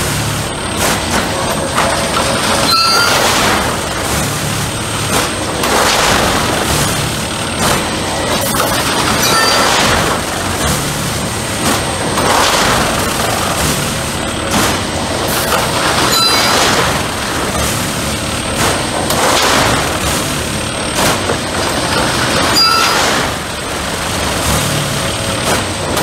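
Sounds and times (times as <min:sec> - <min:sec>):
tamping machine running: 0:00.0 - 0:26.0.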